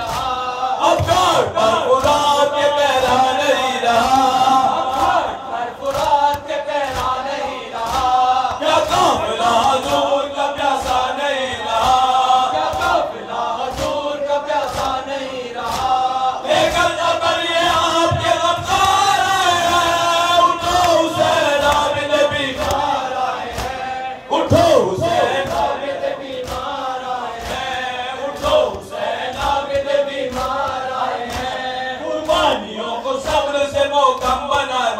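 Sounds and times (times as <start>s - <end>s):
men chanting in unison: 0.0s - 34.9s.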